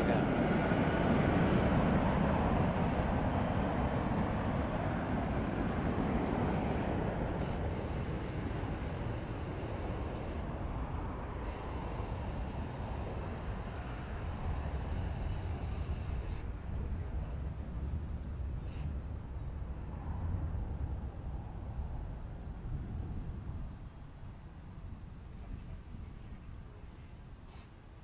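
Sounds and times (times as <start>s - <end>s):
jet engine rumble: 0.0s - 28.0s.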